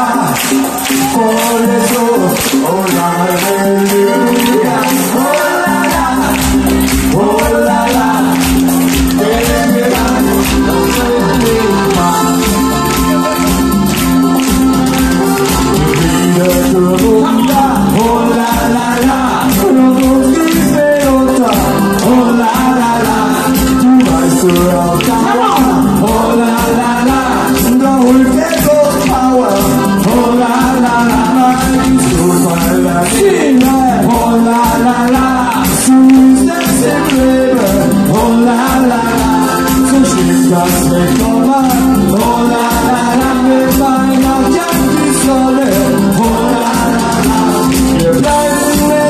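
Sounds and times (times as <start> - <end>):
acoustic guitar: 0.0 - 49.0
man singing into microphone: 0.0 - 49.0
steady beat: 0.0 - 49.0.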